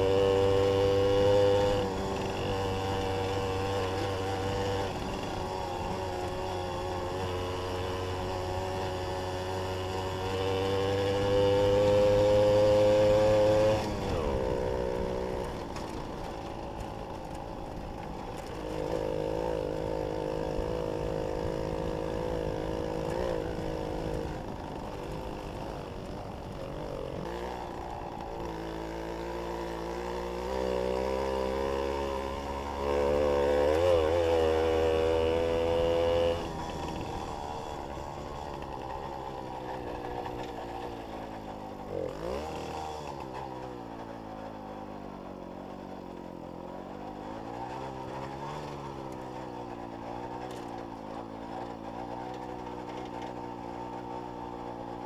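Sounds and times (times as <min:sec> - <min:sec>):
moped two-stroke engine revving: 0:00.0 - 0:55.0.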